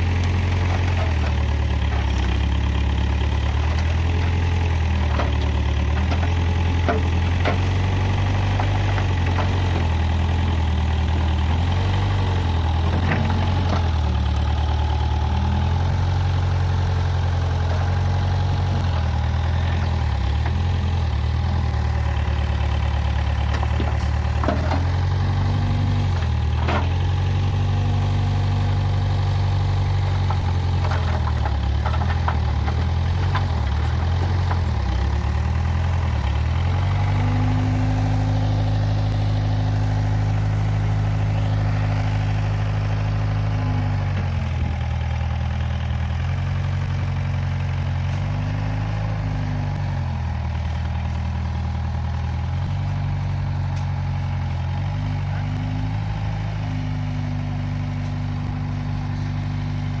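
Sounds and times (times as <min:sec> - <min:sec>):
backhoe engine revving: 0:00.0 - 1:00.0.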